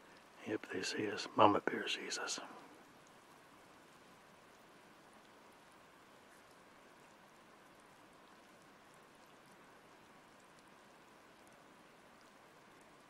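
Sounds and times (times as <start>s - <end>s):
faint steady hiss: 0.0s - 13.0s
faint ticks: 0.0s - 13.0s.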